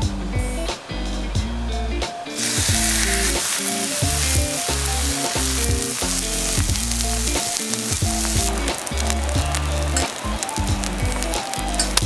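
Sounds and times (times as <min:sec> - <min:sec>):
background music: 0:00.0 - 0:12.0
food sizzling in a pan: 0:02.3 - 0:12.0.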